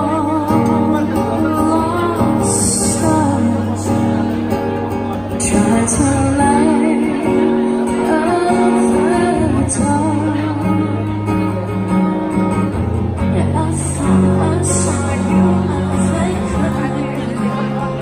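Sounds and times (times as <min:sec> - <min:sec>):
woman singing: 0:00.0 - 0:04.3, 0:05.3 - 0:11.4, 0:13.2 - 0:17.9
acoustic guitar: 0:00.0 - 0:18.0.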